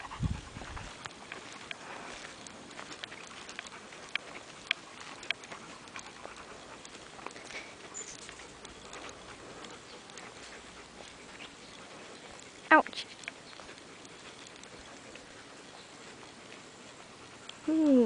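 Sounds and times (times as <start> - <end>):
footsteps crackling on dry ground: 0.0 - 17.7.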